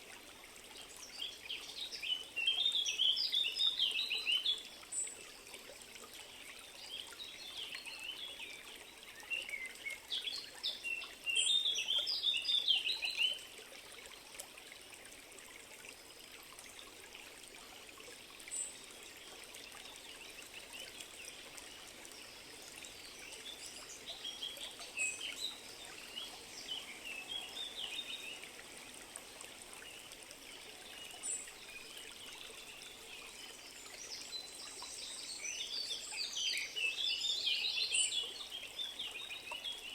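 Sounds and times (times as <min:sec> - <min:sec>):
trickling flowing water: 0:00.0 - 0:39.9.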